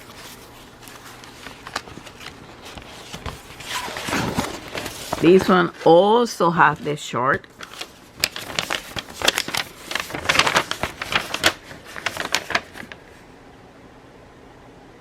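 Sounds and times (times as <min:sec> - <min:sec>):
crinkles and clicks of handling: 0:00.0 - 0:05.9, 0:06.7 - 0:13.0.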